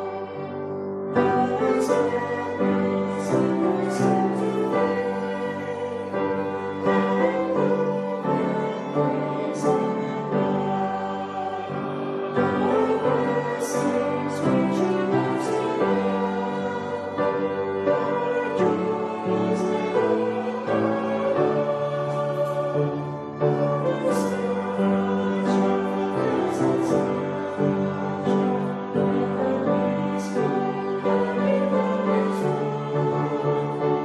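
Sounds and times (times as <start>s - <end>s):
choral singing: 0.0s - 34.0s.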